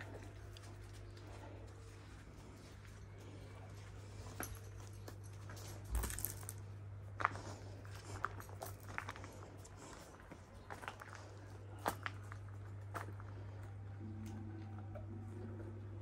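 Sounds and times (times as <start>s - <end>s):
footsteps on tiles and gravel: 0.0s - 13.9s.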